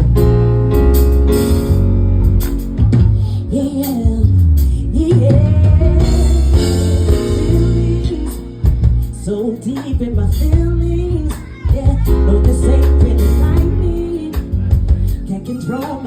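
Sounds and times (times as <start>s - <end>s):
live band with heavy bass and drums: 0.0s - 16.0s
person singing: 2.8s - 16.0s.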